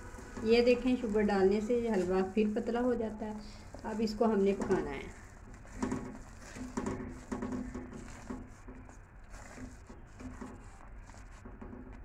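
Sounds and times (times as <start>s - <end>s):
spatula stirring thick halwa in pan: 0.0s - 12.0s.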